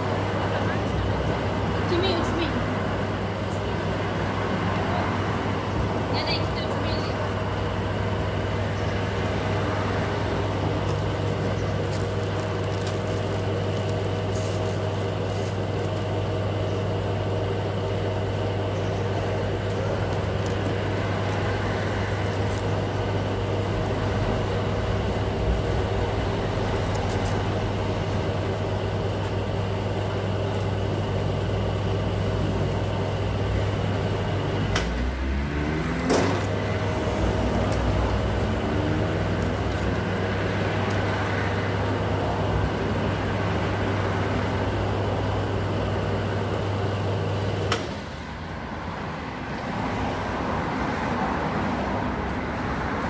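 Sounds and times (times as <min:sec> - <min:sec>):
ice cream machine humming: 0:00.0 - 0:53.0.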